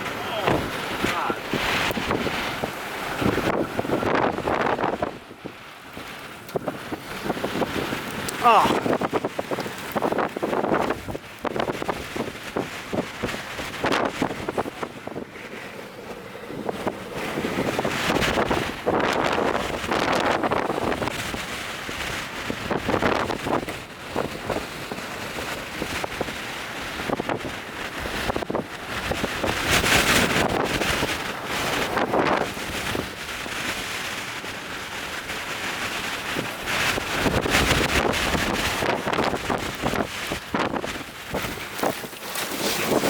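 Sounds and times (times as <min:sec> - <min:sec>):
gusty wind buffeting microphone: 0:00.0 - 0:43.0.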